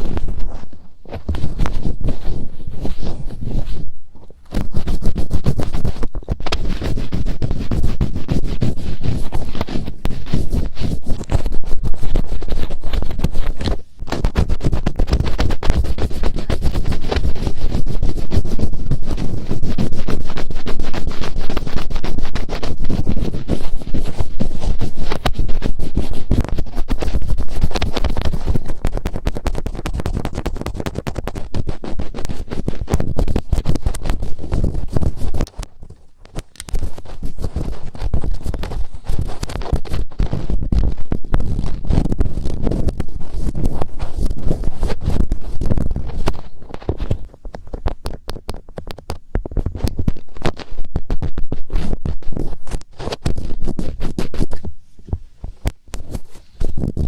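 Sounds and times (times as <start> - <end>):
fingertips rubbing on microphone: 0.0 - 57.0.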